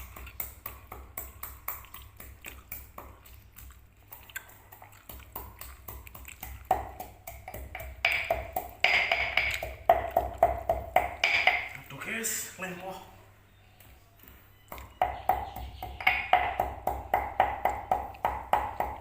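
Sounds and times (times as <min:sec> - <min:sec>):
pestle pounding in a mortar: 0:00.0 - 0:03.7, 0:04.5 - 0:11.8, 0:14.7 - 0:19.0.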